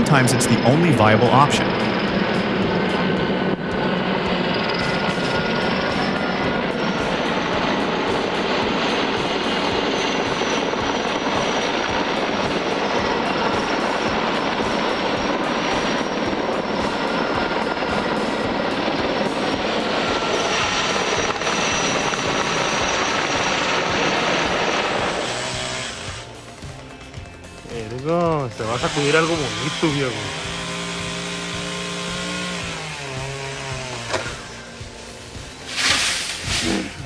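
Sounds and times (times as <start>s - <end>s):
helicopter rotor noise: 0.0s - 37.0s
high turbine whine: 0.0s - 37.0s.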